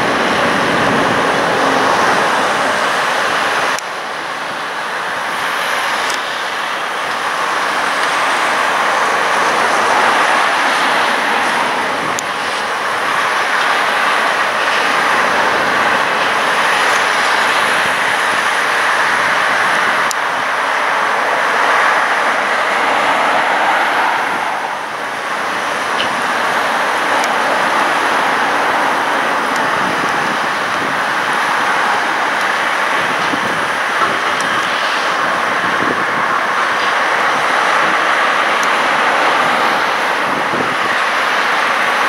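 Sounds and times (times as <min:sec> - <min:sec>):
excavator engines and hydraulics: 0:00.0 - 0:42.0.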